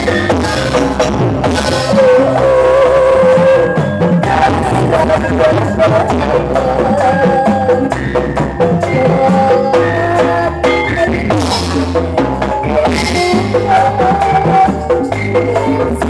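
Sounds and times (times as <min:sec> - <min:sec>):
steady drum beat: 0:00.0 - 0:16.0
wavering melody line: 0:00.0 - 0:16.0.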